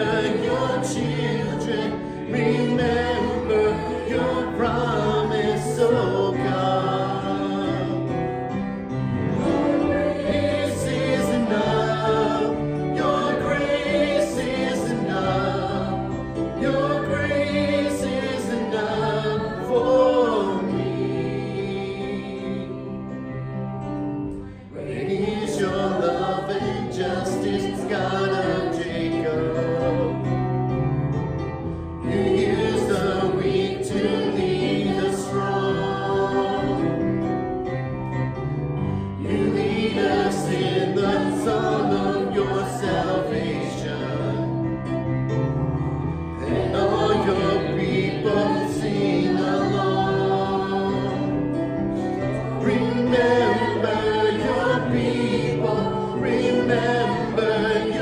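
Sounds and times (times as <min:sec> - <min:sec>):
group singing worship song: 0:00.0 - 0:58.0
instrumental accompaniment: 0:00.0 - 0:58.0.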